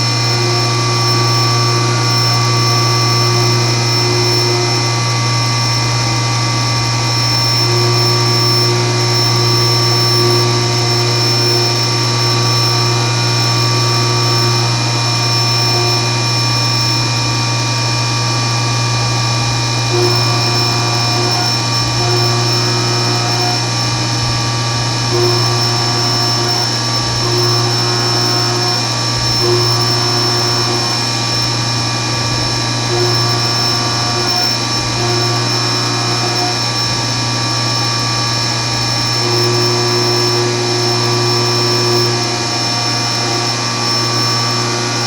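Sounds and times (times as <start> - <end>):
milling machine cutting metal: 0.0 - 45.0.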